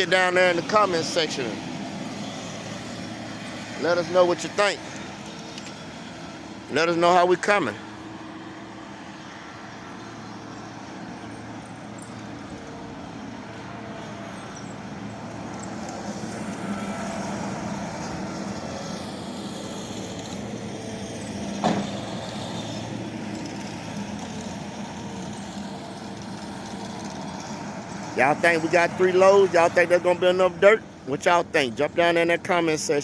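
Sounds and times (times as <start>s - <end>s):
skid steer engine running: 0.0s - 31.0s.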